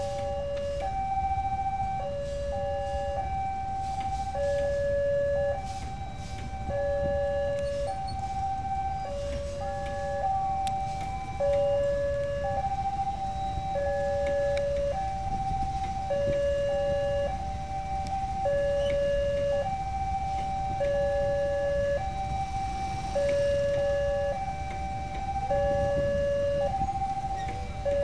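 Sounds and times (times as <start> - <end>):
train passing rumble: 0.0 - 28.0
two-tone crossing alarm: 0.0 - 28.0.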